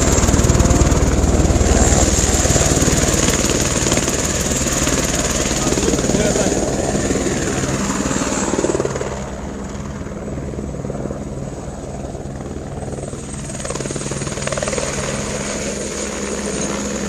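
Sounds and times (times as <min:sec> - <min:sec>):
helicopter engine tone: 0:00.0 - 0:17.0
helicopter rotor beating: 0:00.0 - 0:17.0.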